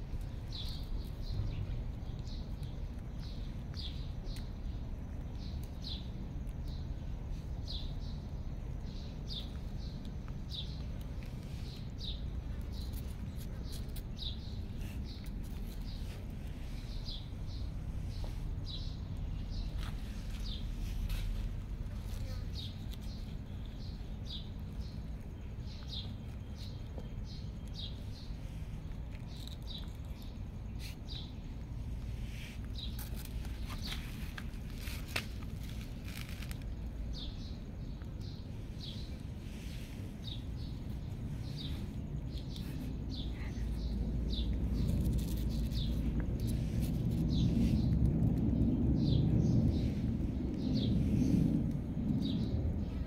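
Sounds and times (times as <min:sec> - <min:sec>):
low rumble: 0:00.0 - 0:53.0
small birds chirping: 0:00.0 - 0:53.0.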